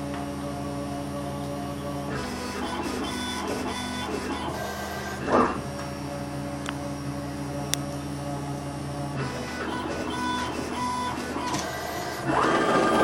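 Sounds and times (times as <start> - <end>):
stepper motors whining and whirring: 0.0 - 13.0.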